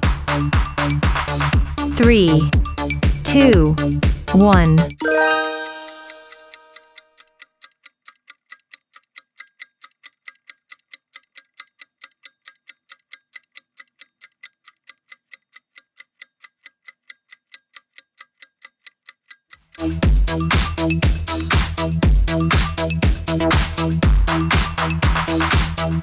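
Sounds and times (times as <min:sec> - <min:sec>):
clock timer ticking: 0:00.0 - 0:19.9, 0:22.3 - 0:26.0.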